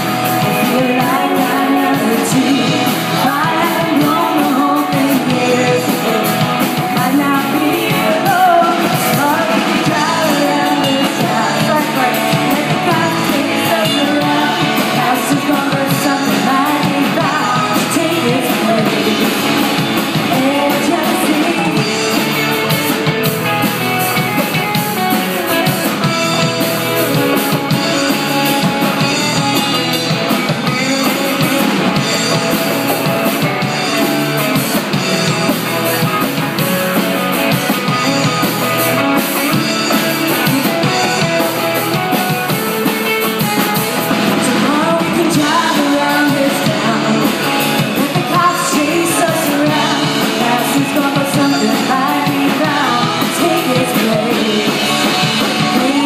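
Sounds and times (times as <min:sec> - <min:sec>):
lead singer singing: 0:00.0 - 0:56.0
rock band playing: 0:00.0 - 0:56.0.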